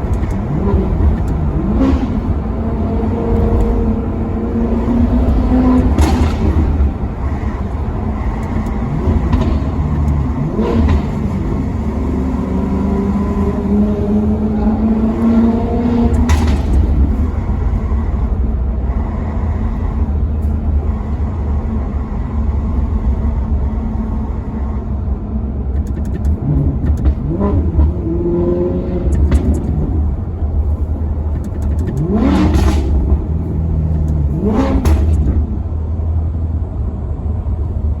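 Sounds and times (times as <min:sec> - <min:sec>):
car engine rumbling and revving: 0:00.0 - 0:38.0.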